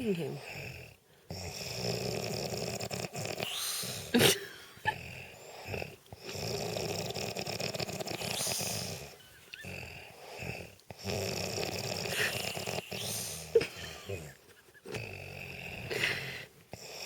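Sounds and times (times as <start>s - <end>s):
man snoring loudly: 0.5s - 17.0s.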